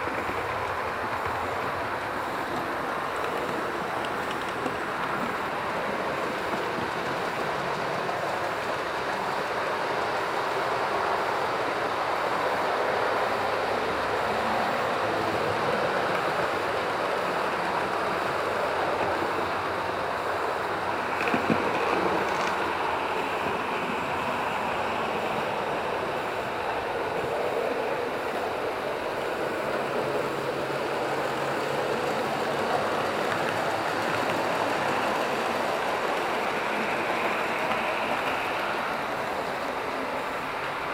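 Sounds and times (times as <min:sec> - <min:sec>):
model train wheels rolling on rail: 0:00.0 - 0:40.9.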